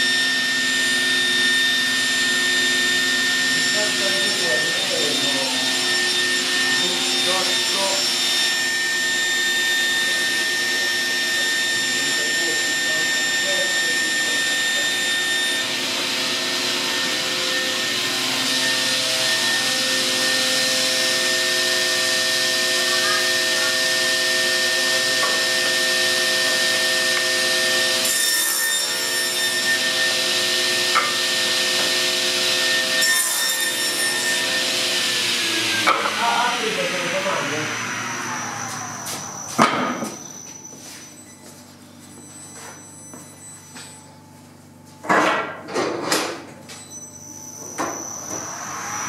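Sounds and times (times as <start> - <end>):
saw cutting wood: 0.0 - 40.8, 47.4 - 49.0
panel saw whining: 0.0 - 41.3, 47.1 - 49.0.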